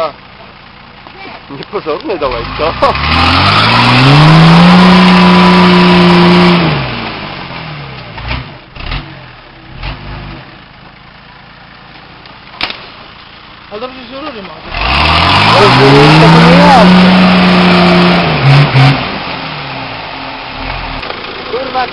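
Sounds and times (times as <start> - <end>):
diesel engine revving: 0.0 - 11.8, 13.2 - 21.9.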